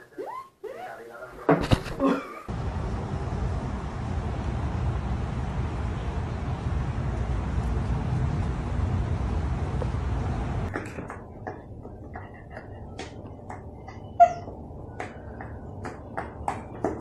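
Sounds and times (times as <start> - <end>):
low rumbling background noise: 1.0 - 17.0.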